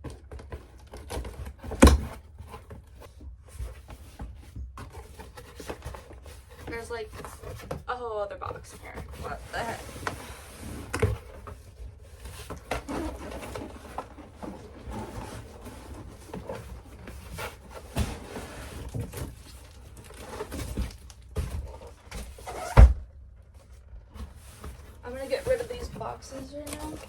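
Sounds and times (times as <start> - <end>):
cardboard rustling and scraping: 0.0 - 27.0.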